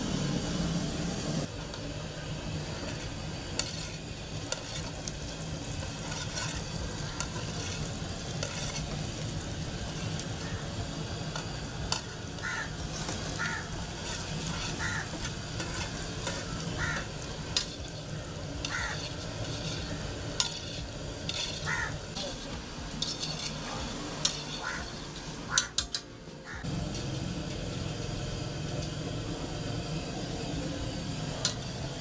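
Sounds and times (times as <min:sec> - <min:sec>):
oil sizzling: 0:00.0 - 0:32.0.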